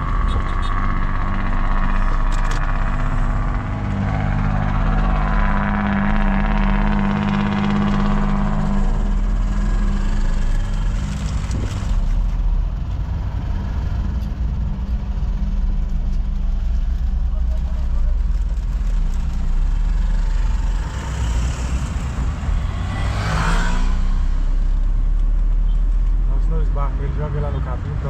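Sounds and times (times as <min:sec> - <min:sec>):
car engine hum: 0:00.0 - 0:28.0
road noise: 0:00.0 - 0:28.0.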